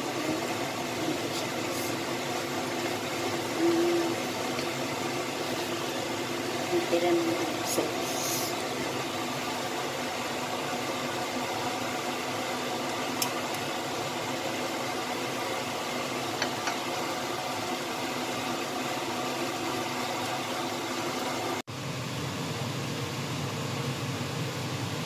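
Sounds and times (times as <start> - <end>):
sauce simmering in a wok: 0.3 - 6.7, 7.4 - 25.0.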